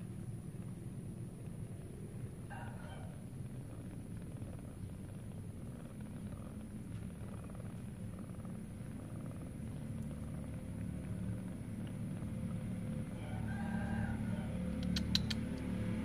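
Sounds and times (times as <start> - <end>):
cats purring: 0.0 - 16.0.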